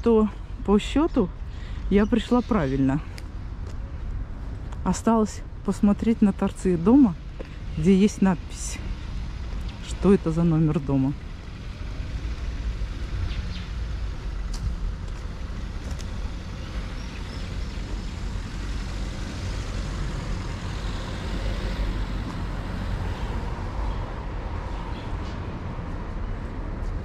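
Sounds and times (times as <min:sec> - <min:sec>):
low city rumble: 0:00.0 - 0:27.0.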